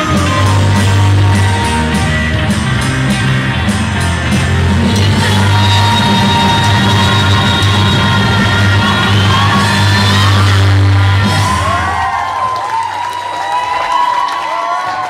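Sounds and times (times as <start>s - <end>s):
rock band playing: 0.0s - 12.5s.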